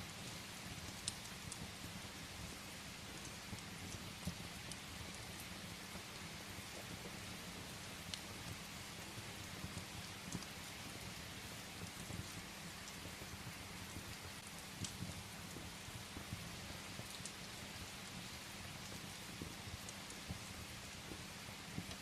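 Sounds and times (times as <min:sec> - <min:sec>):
firewood crackling in fireplace: 0:00.0 - 0:22.0
steady rain: 0:00.0 - 0:22.0.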